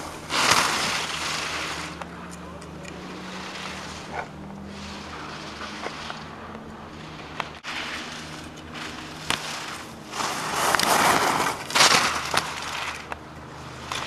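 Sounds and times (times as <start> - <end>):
skis scraping on hard snow: 0.0 - 2.0, 2.8 - 6.2, 7.5 - 14.0.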